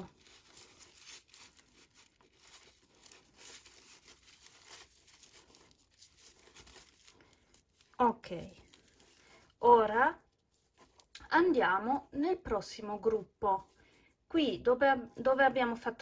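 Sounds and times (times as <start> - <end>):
yarn crinkling rustle: 0.0 - 16.0.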